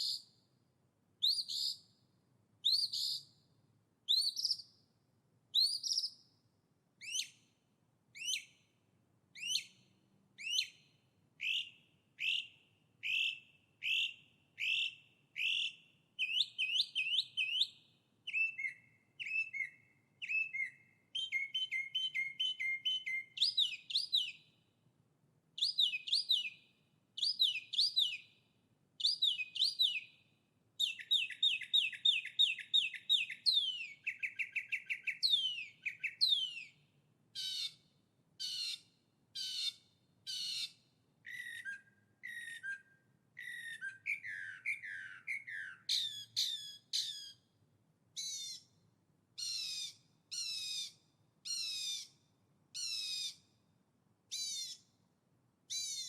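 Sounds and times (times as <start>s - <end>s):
songbird chirps and trills: 0.0s - 0.5s, 1.2s - 8.7s, 9.3s - 24.8s, 25.6s - 47.5s, 48.1s - 53.6s, 54.2s - 55.1s, 55.7s - 56.0s.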